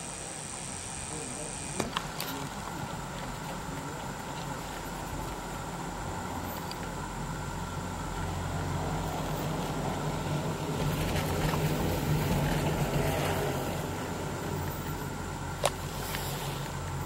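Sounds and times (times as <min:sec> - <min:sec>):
chairlift mechanical hum: 0:00.0 - 0:17.0.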